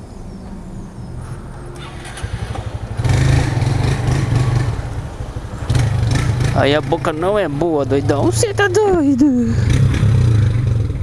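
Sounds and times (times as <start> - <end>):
motorcycle engine running: 1.8 - 11.0.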